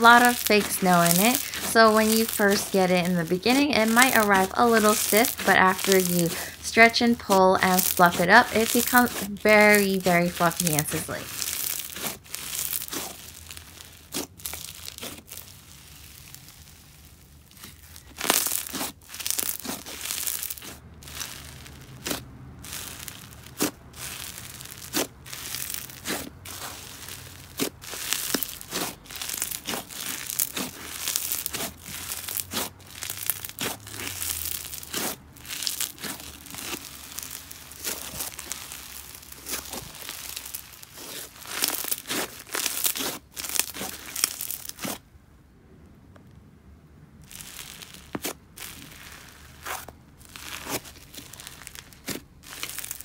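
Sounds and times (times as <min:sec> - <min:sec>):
slime popping: 0:00.0 - 0:16.8, 0:17.6 - 0:45.0, 0:47.2 - 0:53.0
slime crunching and crackling: 0:00.0 - 0:45.1, 0:47.2 - 0:53.0.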